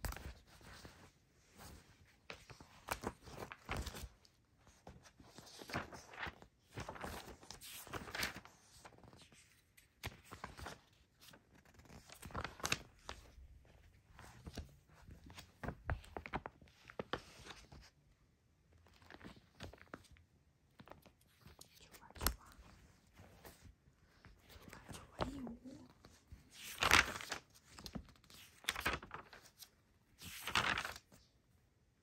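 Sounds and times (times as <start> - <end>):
magazine pages rustling: 0.1 - 17.9, 18.9 - 20.1, 23.2 - 31.2.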